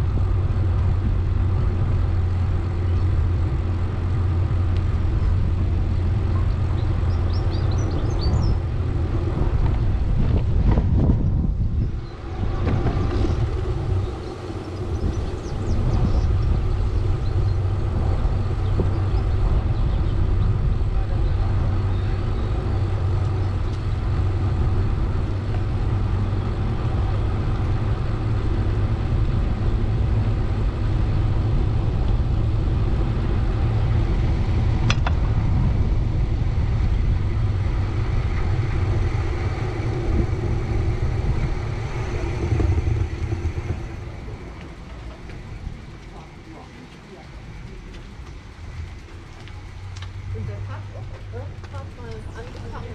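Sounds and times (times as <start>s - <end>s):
road and traffic rumble: 0.0s - 52.9s.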